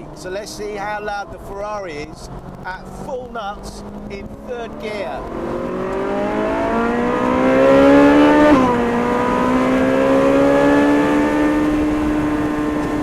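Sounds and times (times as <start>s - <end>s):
sports car engine at full throttle: 0.0s - 13.0s.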